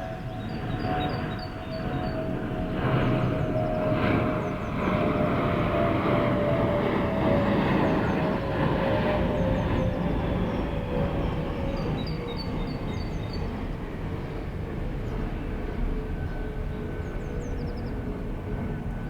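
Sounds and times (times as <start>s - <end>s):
jet airliner roar and whine: 0.0s - 19.0s.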